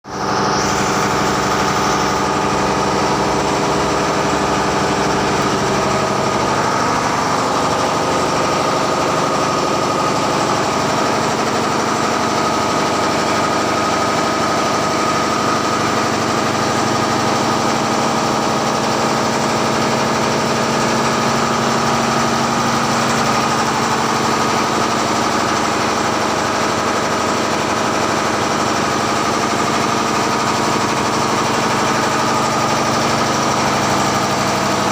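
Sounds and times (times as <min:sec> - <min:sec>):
diesel engines running loudly: 0:00.1 - 0:34.9.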